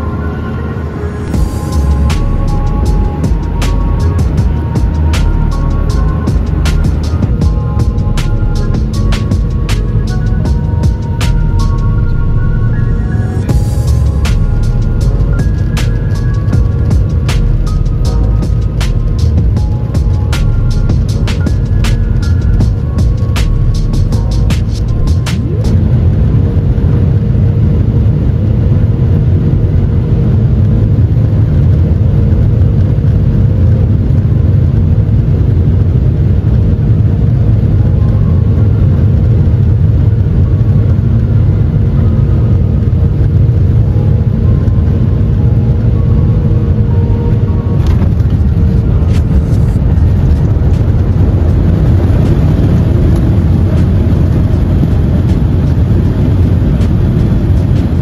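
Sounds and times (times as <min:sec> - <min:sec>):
held engine tone: 0:00.0 - 0:58.0
jet engine and airflow rumble: 0:00.0 - 0:58.0.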